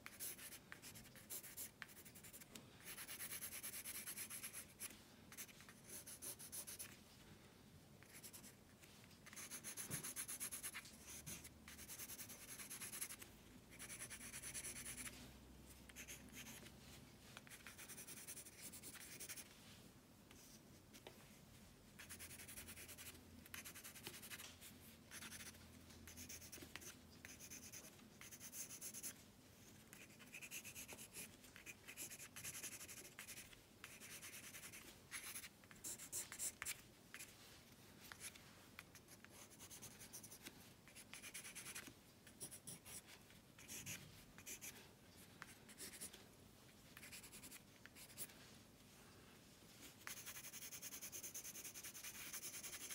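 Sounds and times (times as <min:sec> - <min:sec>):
faint pencil scratching on paper: 0:00.0 - 0:07.0, 0:08.0 - 0:08.6, 0:09.2 - 0:15.3, 0:15.9 - 0:19.6, 0:22.0 - 0:29.2, 0:29.9 - 0:37.4, 0:38.0 - 0:46.2, 0:46.9 - 0:48.4, 0:49.8 - 0:52.9.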